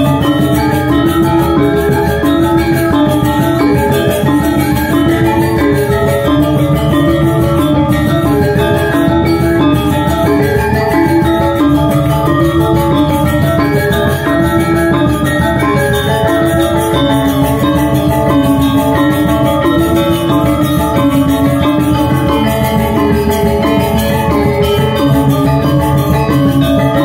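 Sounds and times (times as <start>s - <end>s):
hand drums: 0.0s - 27.0s
metallophones ringing melody: 0.0s - 27.0s.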